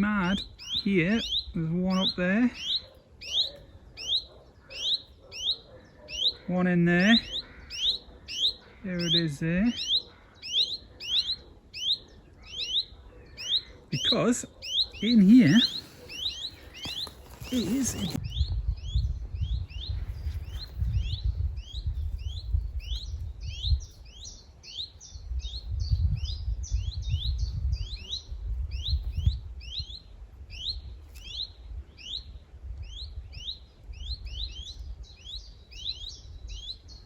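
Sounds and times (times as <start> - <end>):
birds calling in alarm: 0.0 - 37.0.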